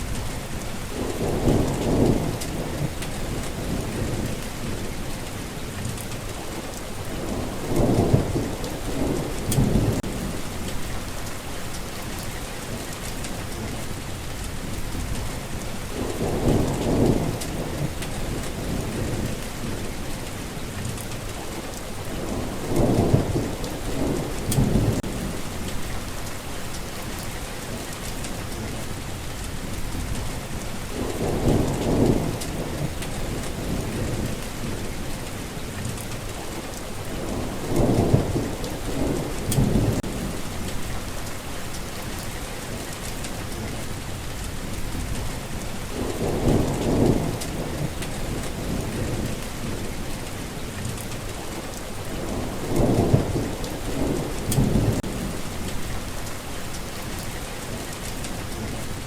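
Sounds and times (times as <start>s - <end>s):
low rolls of thunder: 0.0s - 6.3s, 7.0s - 21.3s, 22.0s - 28.8s, 29.5s - 59.0s
steady rain falling: 0.0s - 59.0s.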